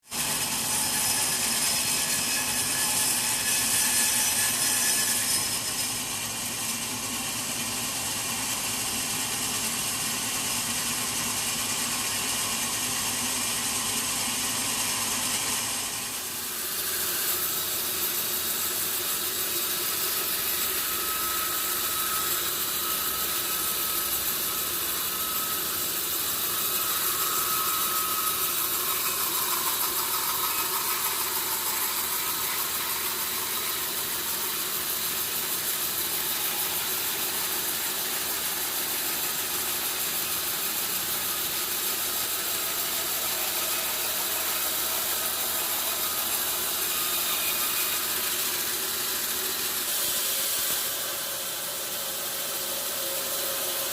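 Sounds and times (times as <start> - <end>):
saw cutting through log: 0.0 - 53.9.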